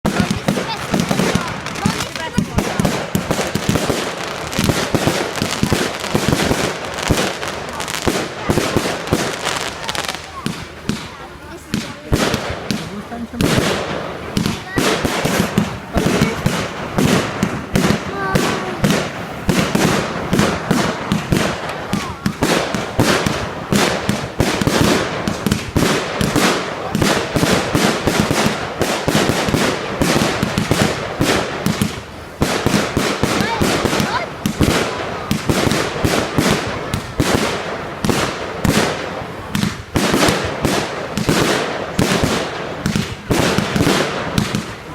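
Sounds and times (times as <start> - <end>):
fireworks bangs and crackles: 0.0 - 44.9
fireworks hissing: 0.0 - 44.9.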